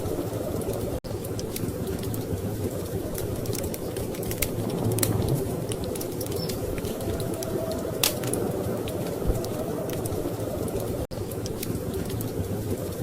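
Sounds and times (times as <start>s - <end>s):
storm wind rumbling: 0.0s - 13.0s
wood fire crackling and popping: 0.0s - 13.0s.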